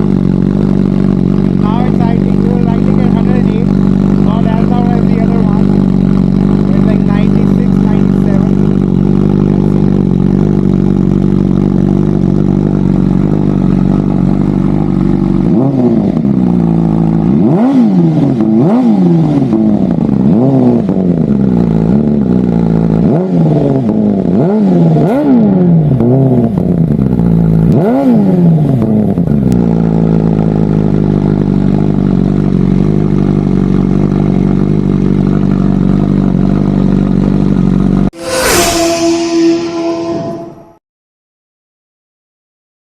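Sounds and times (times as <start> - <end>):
motorcycle engine idling and revving: 0.0 - 40.8.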